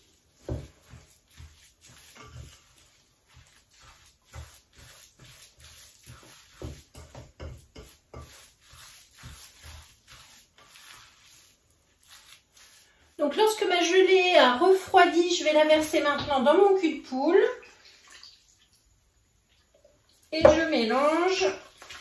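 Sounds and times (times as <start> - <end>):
spatula scraping metal bowl: 0.0 - 16.6, 20.4 - 22.0.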